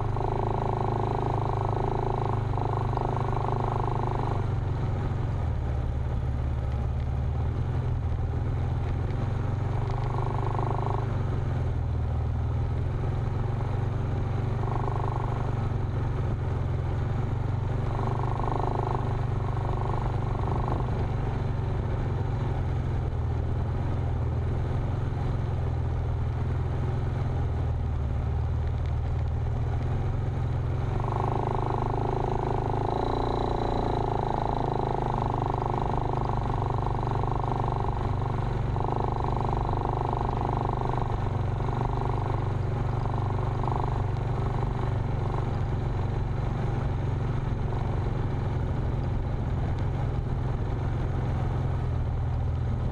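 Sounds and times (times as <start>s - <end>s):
vehicle engine droning: 0.0s - 52.9s.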